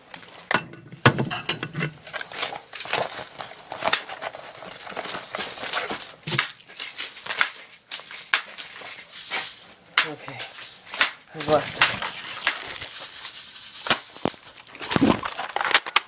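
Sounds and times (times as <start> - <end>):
rustling and crackling: 0.0 - 16.0.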